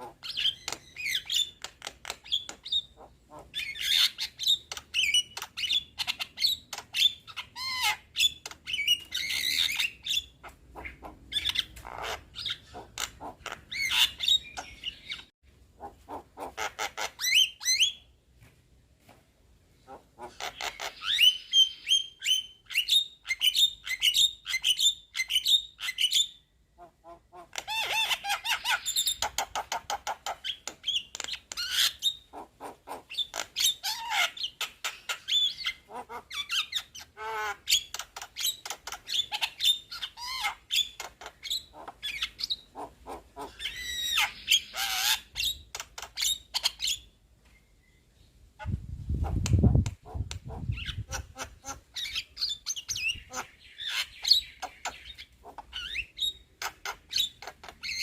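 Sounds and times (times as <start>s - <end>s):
myna bird singing: 0.0s - 18.1s, 19.8s - 58.0s.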